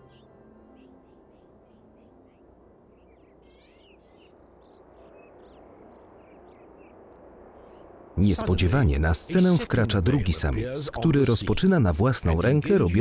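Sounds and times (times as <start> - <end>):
small birds chirping: 0.0 - 13.0
low background rumble: 0.3 - 12.5.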